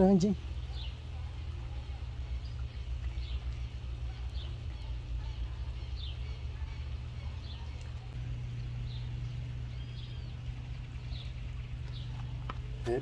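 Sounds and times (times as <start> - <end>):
steady low hum: 0.0 - 13.0
bird high chirp: 0.3 - 12.4.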